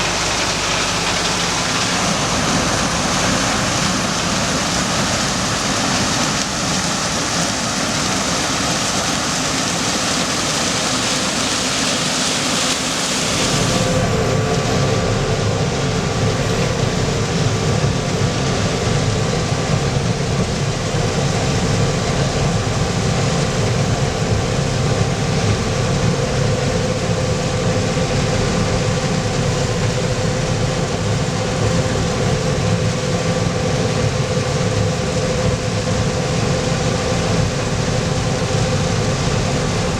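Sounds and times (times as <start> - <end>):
farm machinery engine drone: 0.0 - 39.9.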